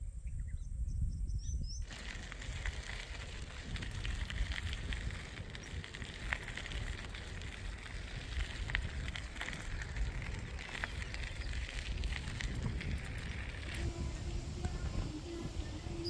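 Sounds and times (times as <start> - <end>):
wind rumble on microphone: 0.0 - 16.0
short ticks and crackles: 1.8 - 14.8.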